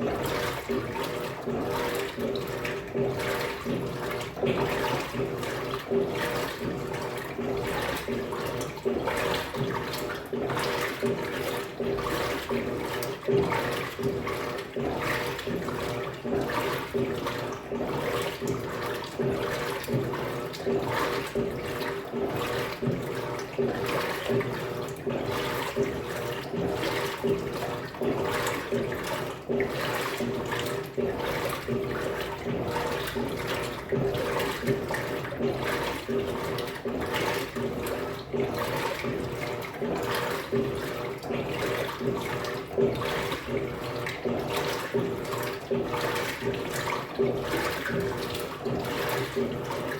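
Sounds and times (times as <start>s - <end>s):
washing machine motor humming: 0.0s - 49.9s
water and clothes swishing: 0.0s - 49.9s.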